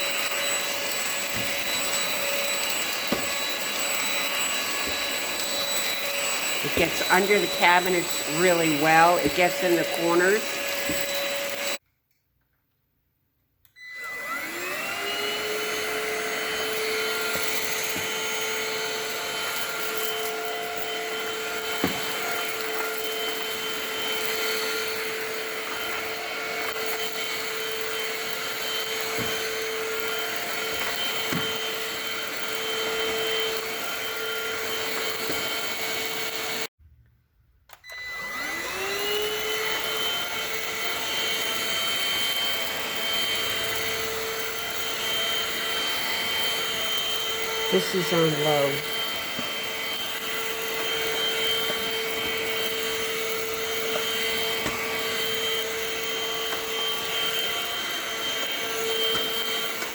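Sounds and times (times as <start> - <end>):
vacuum cleaner motor humming: 0.0 - 11.8, 13.8 - 36.7, 37.8 - 59.9.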